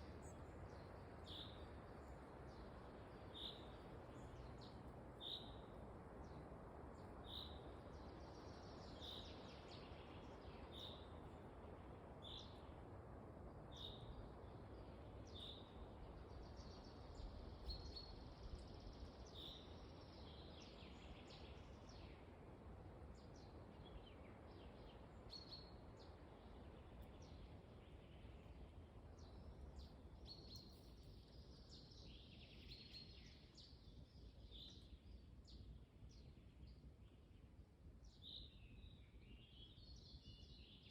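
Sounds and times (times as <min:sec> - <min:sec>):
faint wind in a forest: 0:00.0 - 0:40.9.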